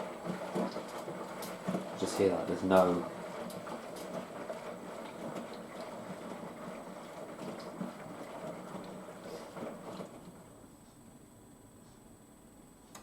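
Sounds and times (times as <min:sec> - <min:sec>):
washing machine filling with water: 0:00.0 - 0:10.8.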